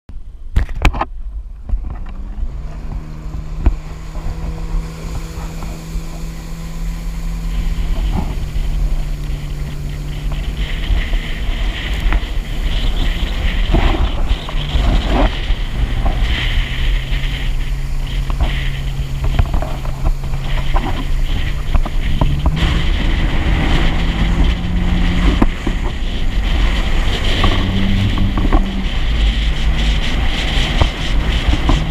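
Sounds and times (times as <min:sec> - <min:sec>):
jet ski engine hum: 0:00.4 - 0:31.9
wind buffeting microphone: 0:00.5 - 0:31.9
rushing water and spray: 0:02.4 - 0:31.9.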